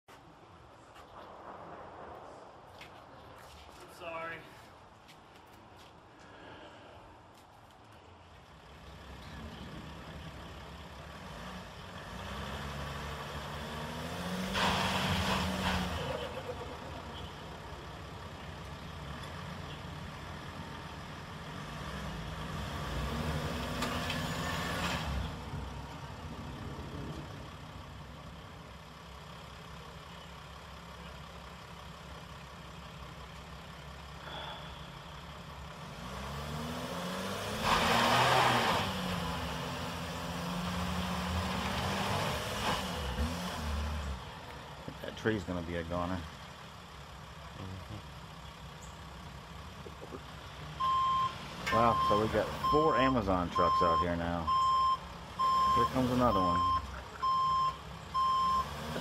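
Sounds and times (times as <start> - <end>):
van engine revving: 8.6 - 59.0.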